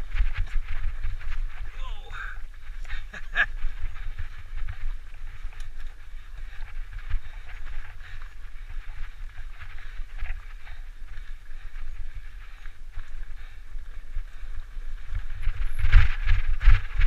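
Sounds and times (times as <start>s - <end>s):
bike tyres crunching on dirt: 0.0s - 17.0s
wind rumble on microphone: 0.0s - 17.0s.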